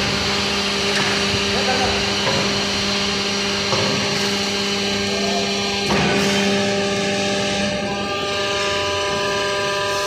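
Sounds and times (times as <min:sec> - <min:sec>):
hydraulic pump and motor whine: 0:00.0 - 0:10.0.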